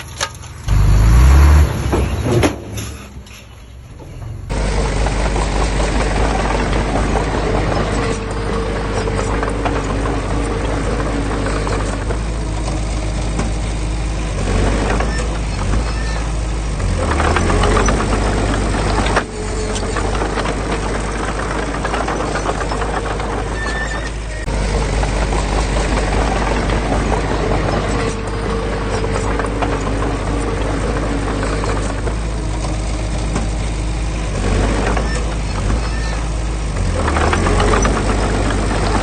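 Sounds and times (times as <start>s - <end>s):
heavy machinery diesel engine: 0.0s - 39.0s.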